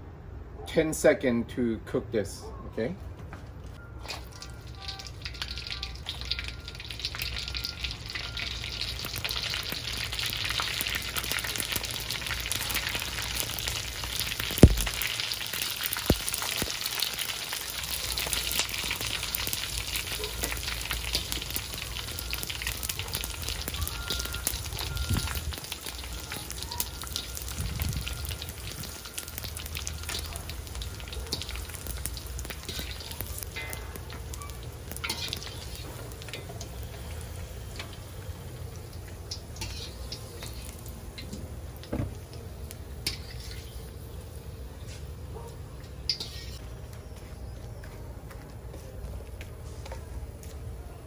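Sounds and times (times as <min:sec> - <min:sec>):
deep-frying crackling sizzle: 0:03.8 - 0:51.0.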